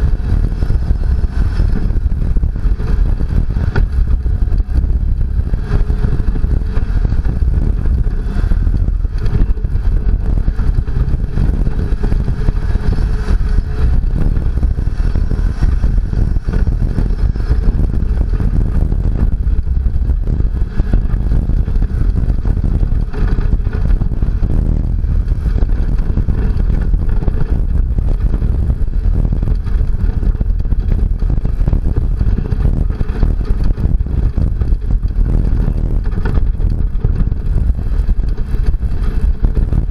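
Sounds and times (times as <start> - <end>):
rattling and clatter: 0.0 - 39.9
truck engine and tyre rumble: 0.0 - 39.9.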